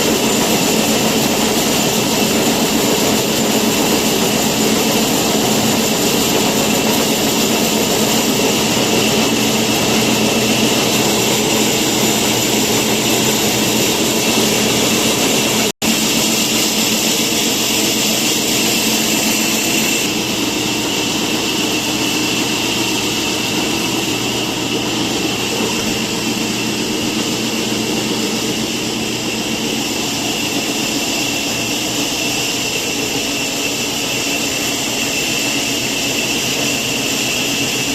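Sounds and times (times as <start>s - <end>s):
woodworking machine whine: 0.0s - 37.9s.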